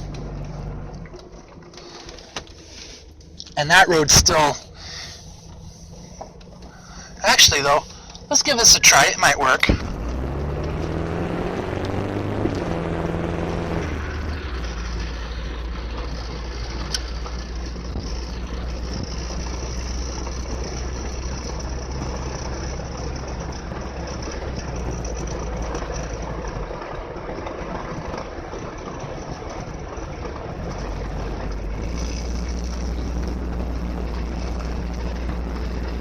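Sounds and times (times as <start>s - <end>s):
car engine drone: 0.0s - 36.0s
road noise: 0.0s - 36.0s.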